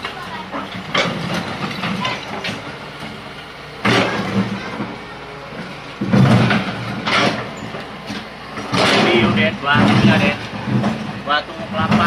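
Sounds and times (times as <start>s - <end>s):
rubble scraping and clattering: 0.0s - 3.2s, 3.8s - 12.0s
excavator diesel engine running: 0.0s - 12.0s.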